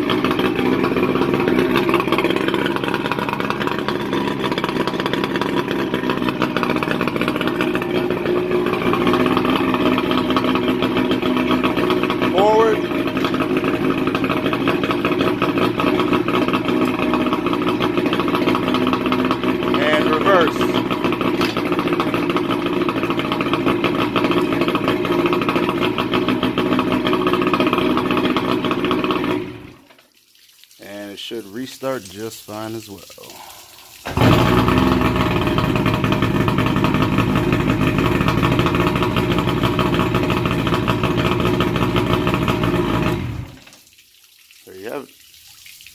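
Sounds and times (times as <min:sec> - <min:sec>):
outboard motor idling: 0:00.0 - 0:29.9, 0:30.8 - 0:43.7.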